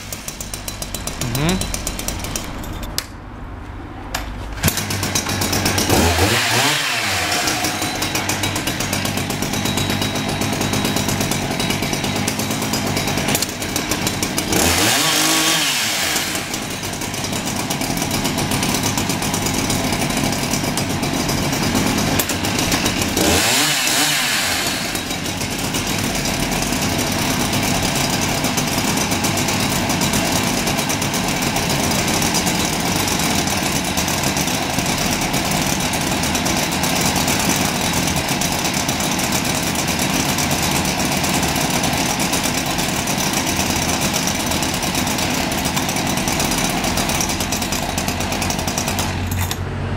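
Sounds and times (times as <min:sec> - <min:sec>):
chainsaw engines idling: 0:00.0 - 0:49.9.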